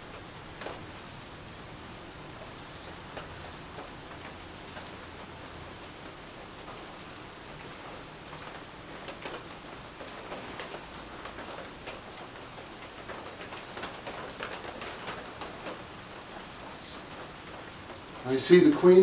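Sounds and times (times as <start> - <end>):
rain on a shed roof: 0.0 - 19.0.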